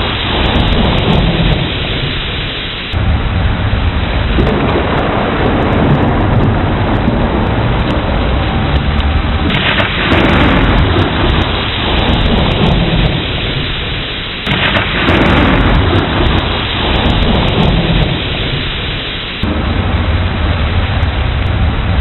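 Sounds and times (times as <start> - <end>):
heavy rain: 0.0 - 22.0
thunder claps rumbling: 0.0 - 22.0.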